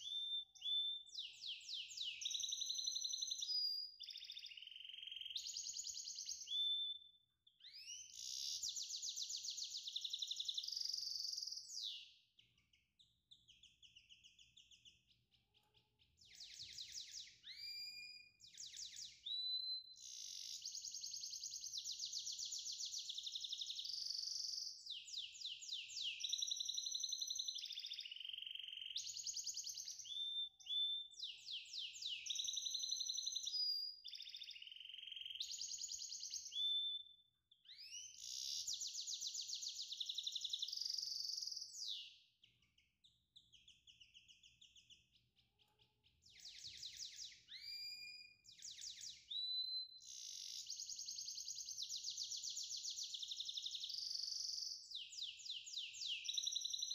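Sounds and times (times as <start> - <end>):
birdlike trills and whistles: 0.0 - 56.9.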